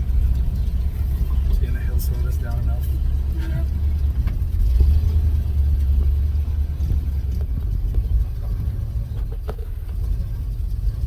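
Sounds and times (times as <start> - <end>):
pickup engine rumble: 0.0 - 11.0.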